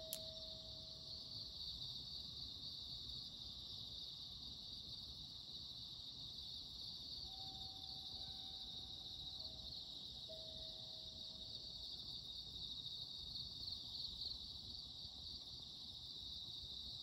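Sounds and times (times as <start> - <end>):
faint steady tone: 0.0 - 17.0
night insects chirping: 0.0 - 17.0.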